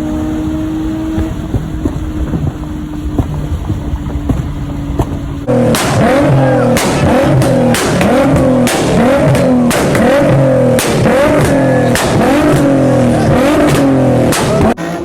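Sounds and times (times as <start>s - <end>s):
sharp exhaust cracks: 0.0s - 14.9s
car engine revving: 0.0s - 15.0s.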